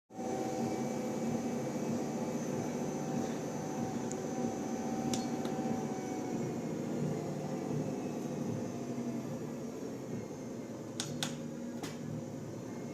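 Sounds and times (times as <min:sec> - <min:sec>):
treadmill motor hum: 0:00.1 - 0:12.9.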